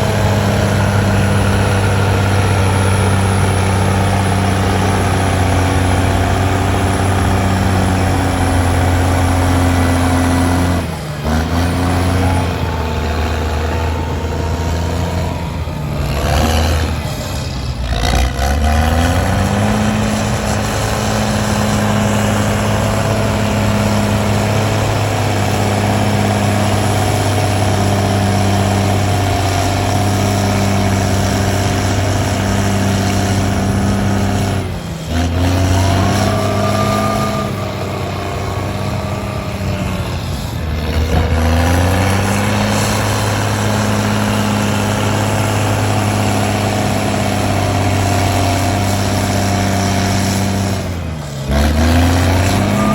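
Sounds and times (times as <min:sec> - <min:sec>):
heavy diesel engine working: 0:00.0 - 0:52.9.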